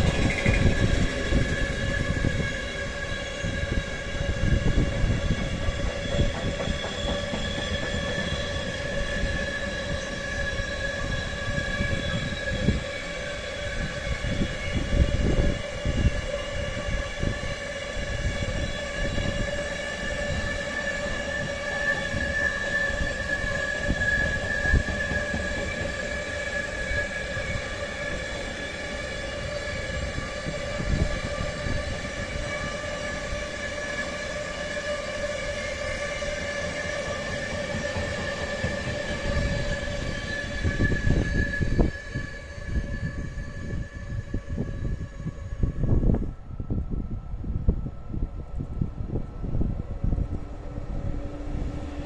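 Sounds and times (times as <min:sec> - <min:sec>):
high-pitched squeal: 0:00.0 - 0:46.8.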